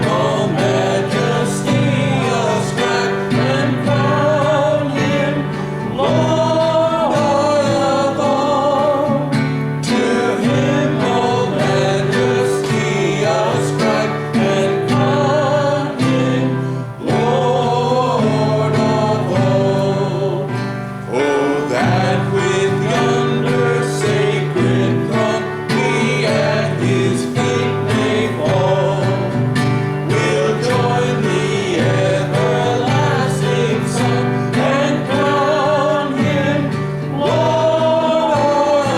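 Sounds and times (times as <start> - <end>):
gospel hymn sung with vibrato: 0.0 - 38.9
instrumental accompaniment: 0.0 - 38.9.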